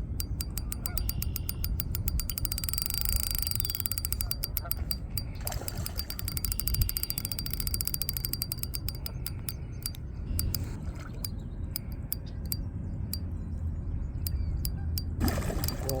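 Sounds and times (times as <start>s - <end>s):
fishing reel clicking: 0.0s - 10.7s, 11.8s - 12.6s, 14.3s - 16.0s
low rumbling handling noise: 0.0s - 16.0s.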